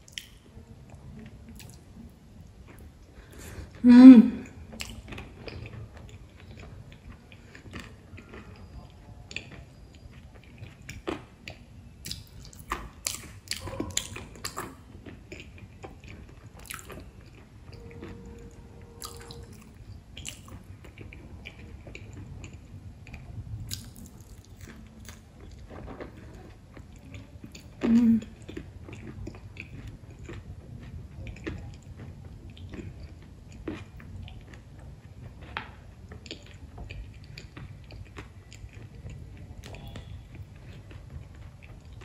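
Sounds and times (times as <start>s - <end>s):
crunchy chewing: 4.4s - 42.0s.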